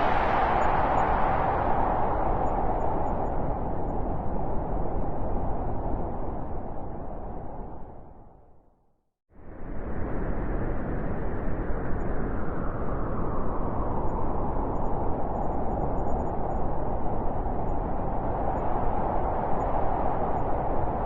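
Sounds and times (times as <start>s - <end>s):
blizzard wind howling: 0.0s - 8.6s, 9.3s - 21.0s.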